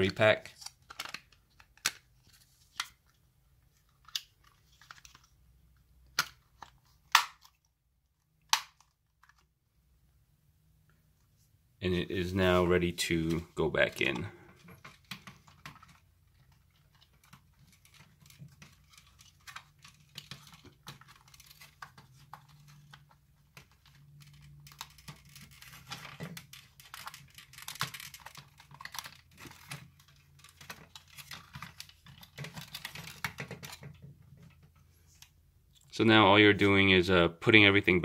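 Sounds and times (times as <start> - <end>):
plastic parts clicking and rustling: 0.0 - 5.4, 6.0 - 9.6, 13.2 - 35.9.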